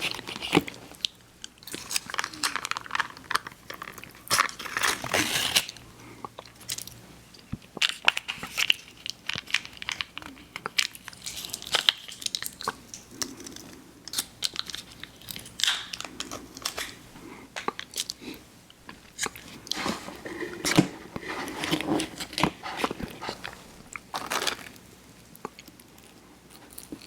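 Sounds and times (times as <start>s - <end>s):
crunchy chewing of fried food: 0.0s - 27.0s.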